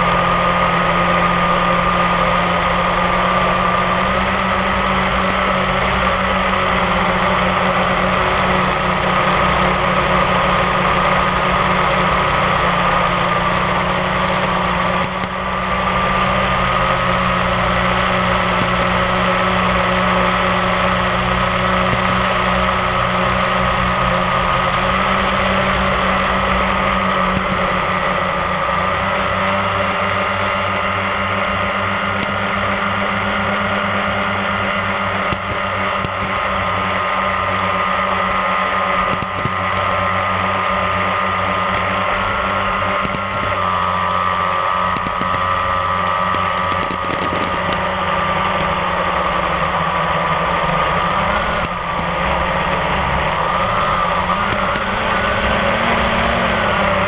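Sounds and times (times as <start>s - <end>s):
mechanical drone with whine: 0.0s - 57.0s.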